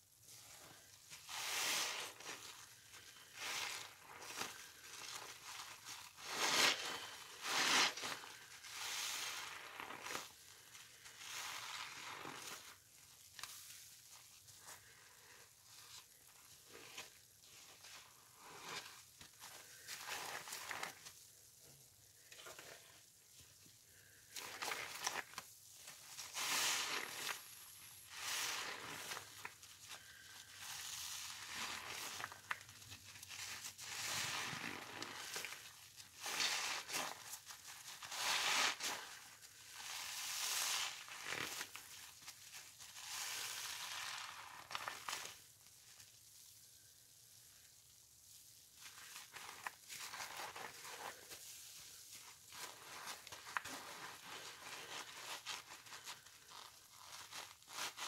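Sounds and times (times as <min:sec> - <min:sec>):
wet sponges squishing: 0:00.1 - 0:58.0.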